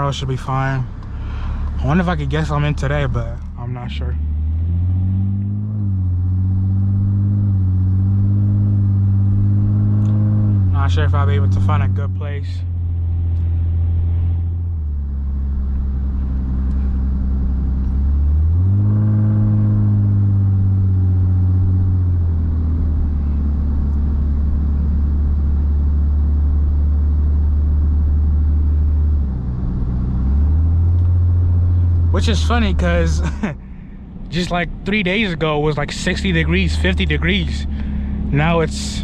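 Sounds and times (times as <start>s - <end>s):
car engine droning: 0.0s - 39.0s
road rumble: 0.0s - 39.0s.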